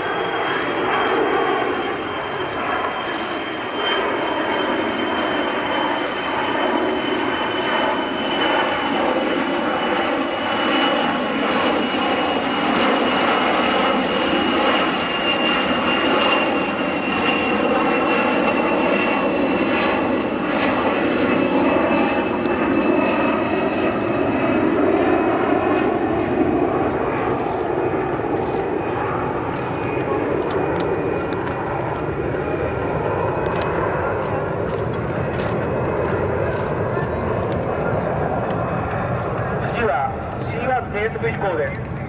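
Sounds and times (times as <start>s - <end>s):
jet engines flying past: 0.0s - 42.0s.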